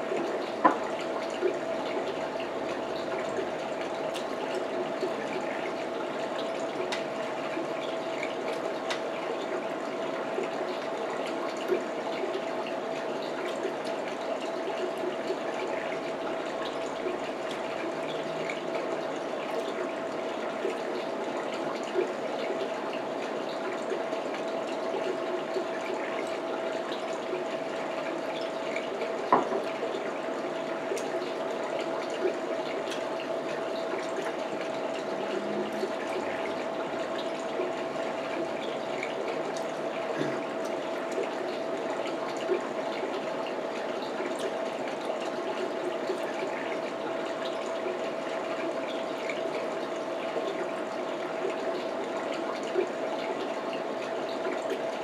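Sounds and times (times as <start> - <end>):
appliance hum and hiss: 0.0 - 55.0.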